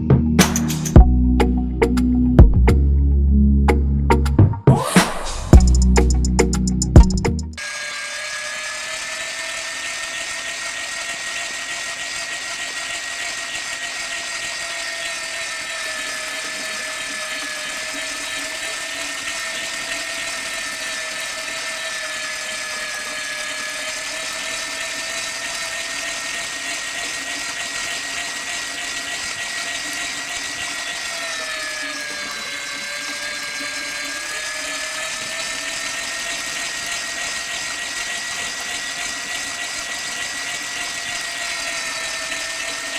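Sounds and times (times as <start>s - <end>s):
small toy motor whining: 7.6s - 42.9s.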